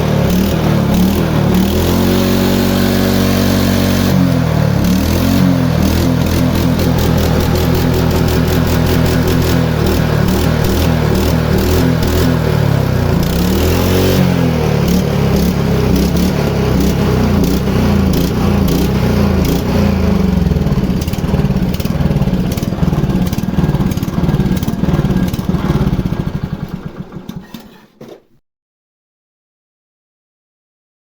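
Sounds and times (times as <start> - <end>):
lawn mower engine running: 0.0 - 28.2.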